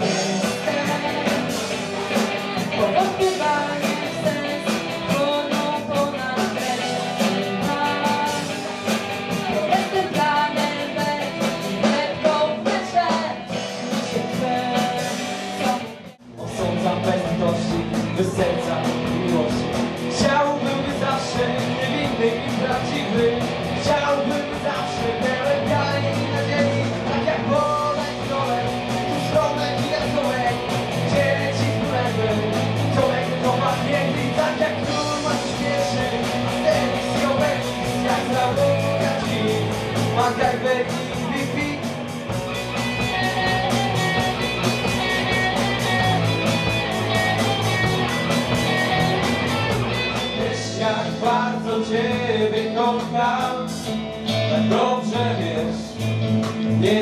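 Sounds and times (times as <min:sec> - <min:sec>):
person singing: 0:00.0 - 0:42.0, 0:42.6 - 0:57.0
bass guitar: 0:00.0 - 0:57.0
drum kit: 0:00.0 - 0:57.0
electric guitars: 0:00.0 - 0:57.0.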